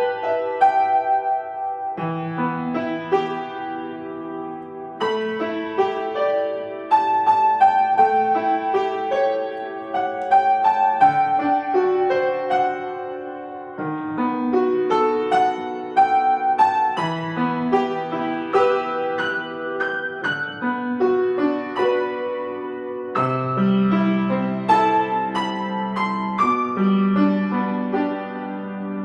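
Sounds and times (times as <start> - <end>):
solo piano playing: 0.0 - 29.0.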